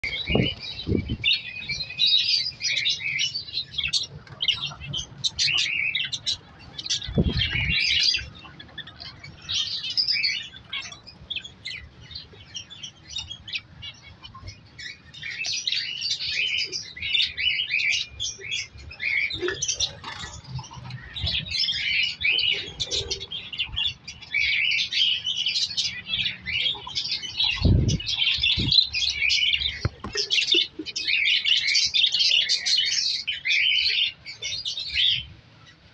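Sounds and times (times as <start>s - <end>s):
budgerigars chattering: 0.0s - 35.8s.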